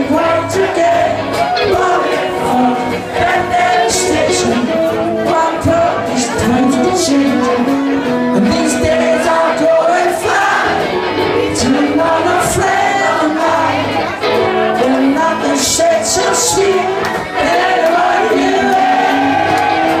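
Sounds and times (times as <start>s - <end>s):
audience singing and crowd noise: 0.0s - 20.0s
lead vocal singing: 0.0s - 20.0s
live rock band playing: 0.0s - 20.0s.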